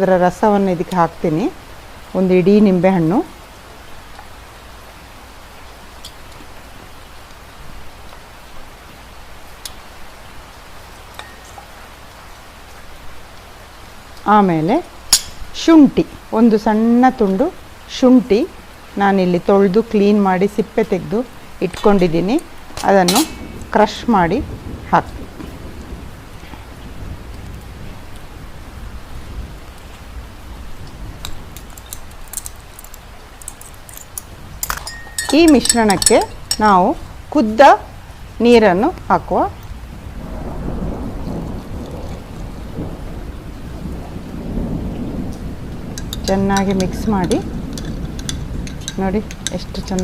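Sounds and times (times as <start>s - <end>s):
heavy rain hissing: 0.0s - 50.0s.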